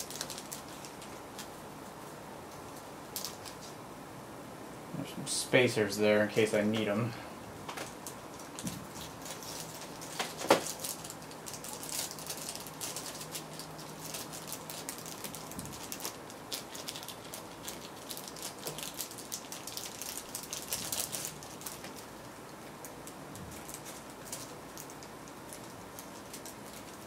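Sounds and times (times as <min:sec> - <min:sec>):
plastic bag crinkling: 0:00.0 - 0:01.6, 0:02.7 - 0:03.8, 0:07.8 - 0:27.0.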